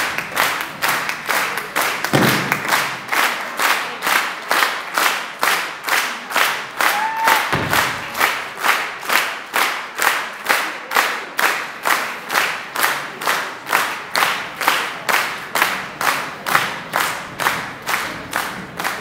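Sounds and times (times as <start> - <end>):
audience clapping in unison: 0.0 - 19.0.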